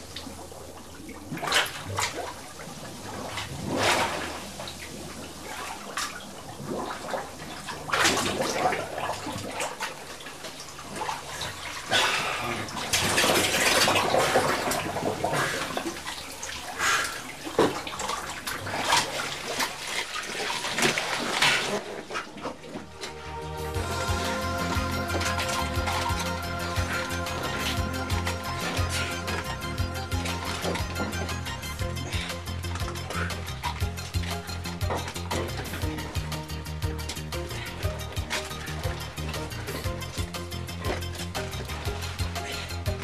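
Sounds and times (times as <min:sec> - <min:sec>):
water splashing and sloshing: 0:00.0 - 0:43.0.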